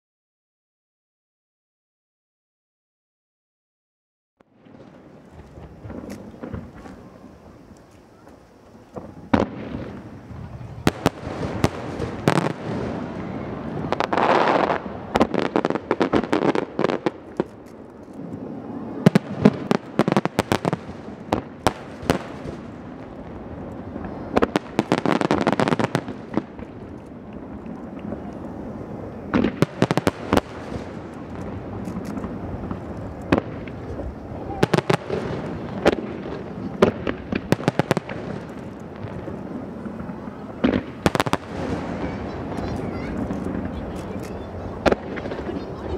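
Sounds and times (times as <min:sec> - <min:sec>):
firework crackling: 0:04.4 - 0:45.9
firework shells bursting: 0:04.5 - 0:45.9.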